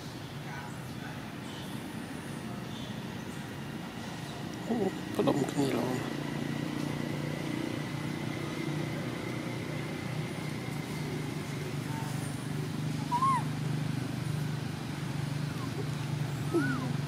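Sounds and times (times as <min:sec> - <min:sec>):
low engine hum: 0:01.6 - 0:17.0.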